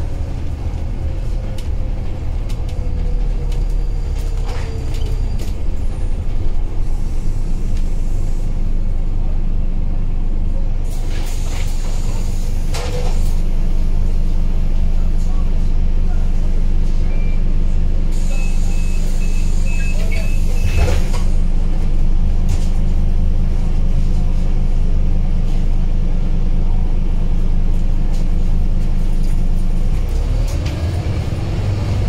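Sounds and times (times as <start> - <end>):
bus engine idling: 0.0 - 32.0.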